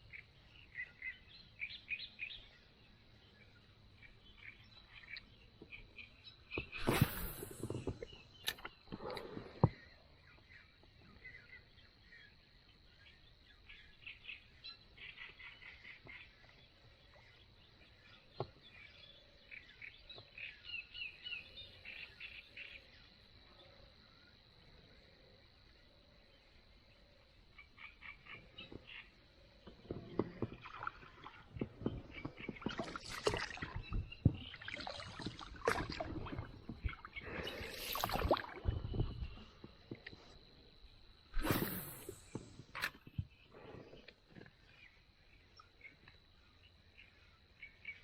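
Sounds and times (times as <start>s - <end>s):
birds chirping: 0.0s - 24.5s, 25.7s - 46.2s.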